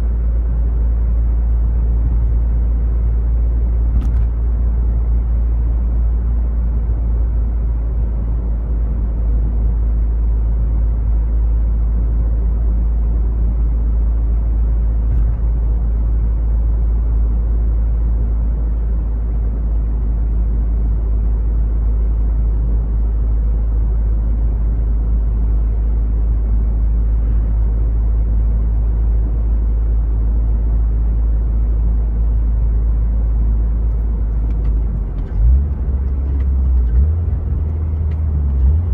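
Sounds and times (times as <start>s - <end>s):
low exhaust drone in car cabin: 0.0s - 38.9s.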